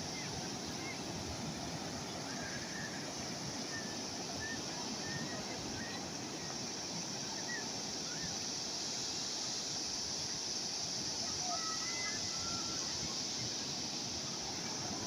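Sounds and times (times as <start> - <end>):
calm sea waves washing: 0.0 - 15.0.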